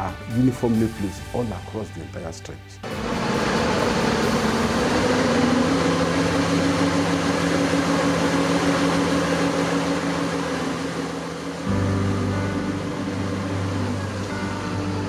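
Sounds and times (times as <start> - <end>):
heavy machinery running: 2.8 - 15.0.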